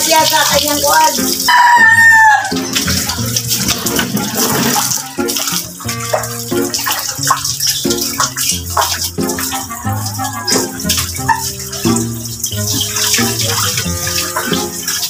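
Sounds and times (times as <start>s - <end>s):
background music: 0.0s - 15.0s
hose water spraying and splashing: 0.0s - 15.0s.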